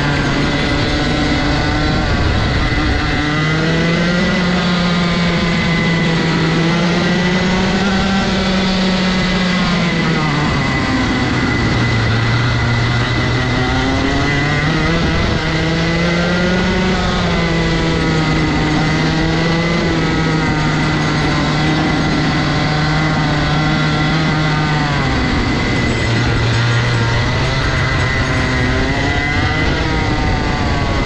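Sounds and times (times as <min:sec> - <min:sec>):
two-stroke kart engine revving: 0:00.0 - 0:31.0.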